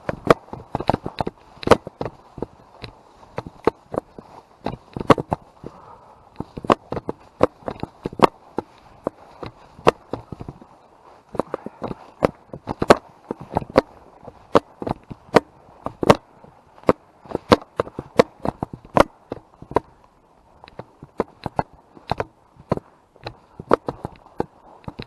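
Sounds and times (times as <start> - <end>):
footsteps crunching through undergrowth: 0.0 - 25.0.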